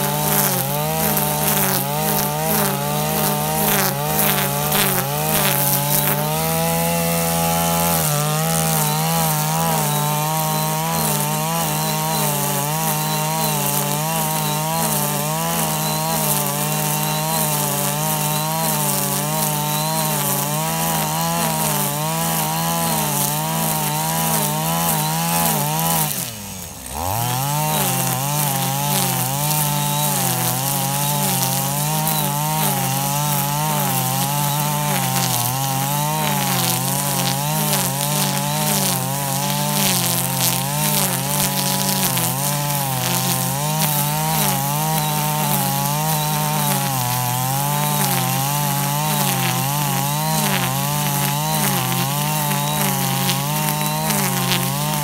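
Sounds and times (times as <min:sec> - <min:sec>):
brush cutter cutting grass: 0:00.0 - 0:55.0.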